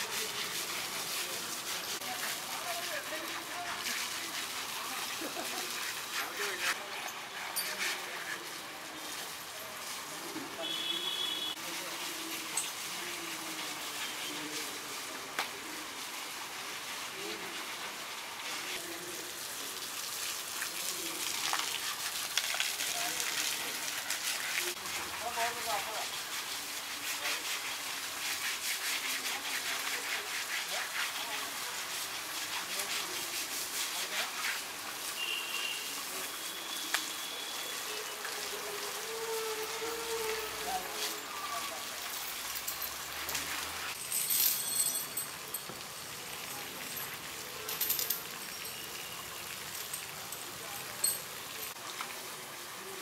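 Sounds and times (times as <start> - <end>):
hose water gushing and splashing: 0.0 - 53.0.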